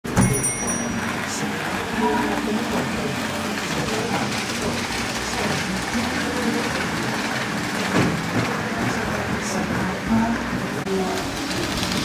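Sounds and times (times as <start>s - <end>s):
model train wheels rolling on track: 0.1s - 12.0s.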